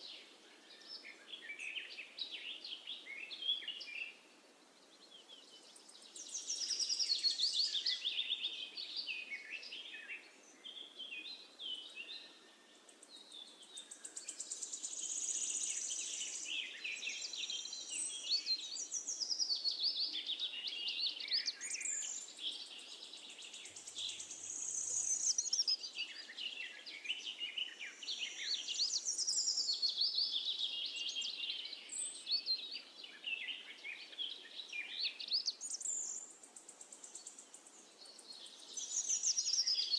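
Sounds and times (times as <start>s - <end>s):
birds chirping and singing: 5.0s - 39.9s.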